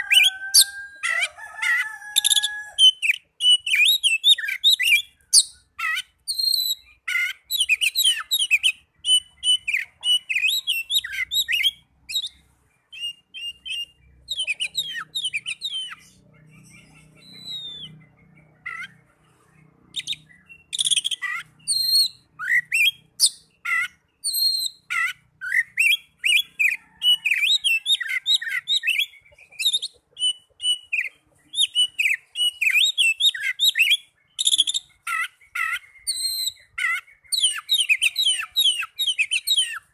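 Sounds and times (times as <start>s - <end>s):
songbird singing whistled phrases: 2.2s - 19.0s, 19.9s - 39.9s.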